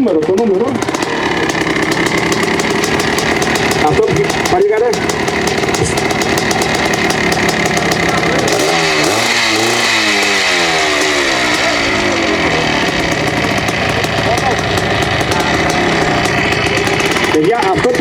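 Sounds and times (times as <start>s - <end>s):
motorcycle engine revving: 0.0s - 18.0s
motorcycle engines idling: 0.0s - 18.0s.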